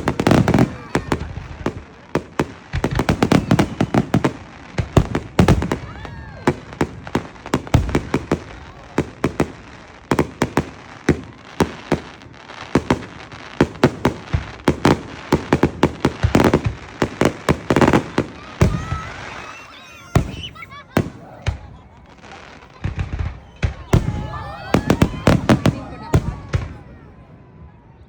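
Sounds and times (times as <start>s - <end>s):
fireworks exploding: 0.0s - 27.9s.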